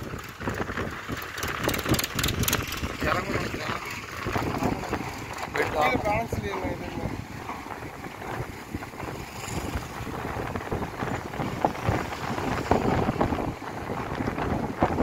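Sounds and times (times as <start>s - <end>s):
wind blowing over microphone: 0.0s - 15.0s.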